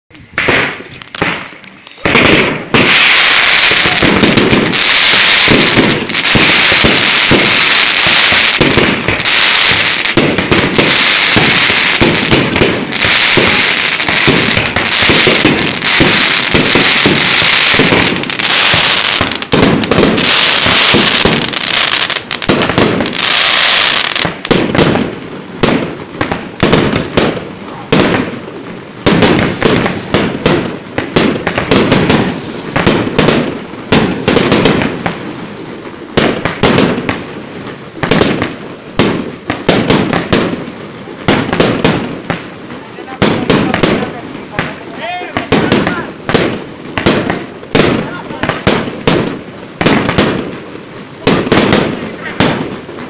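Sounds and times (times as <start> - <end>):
fireworks bangs and booms: 0.1 - 53.0
fireworks crackling hiss: 0.2 - 53.0.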